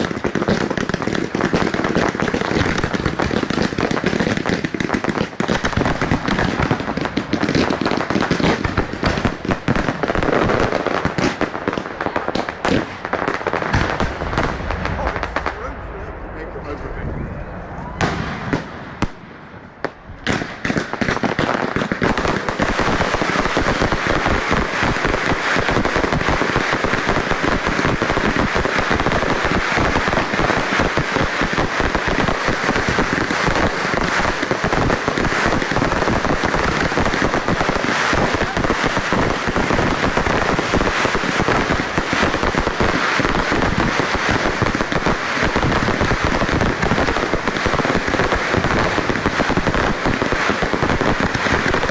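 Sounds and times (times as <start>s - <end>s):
firework bangs: 0.0s - 51.9s
fireworks crackling and popping: 0.0s - 51.9s.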